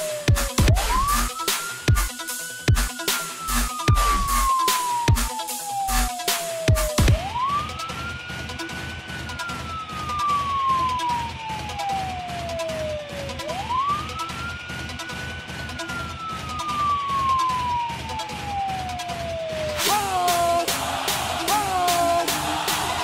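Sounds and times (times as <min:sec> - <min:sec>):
background music with steady beat: 0:00.0 - 0:23.0
wail siren: 0:00.0 - 0:23.0.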